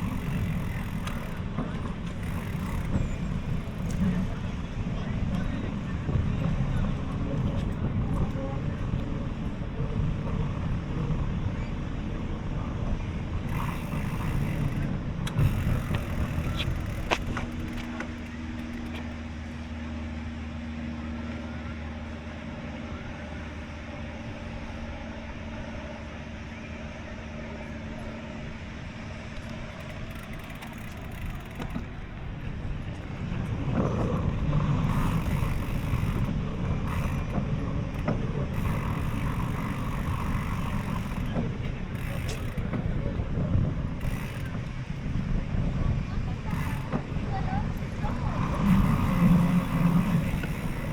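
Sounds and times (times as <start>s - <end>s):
low hum: 0.0s - 50.9s
road traffic: 0.0s - 50.9s.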